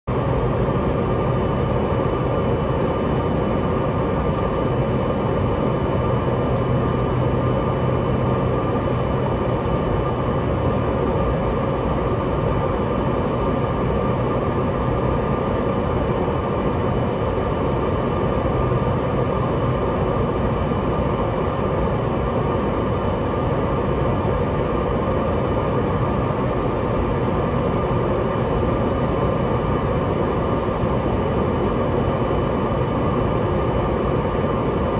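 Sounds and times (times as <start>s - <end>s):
turboprop engine droning: 0.1s - 34.9s.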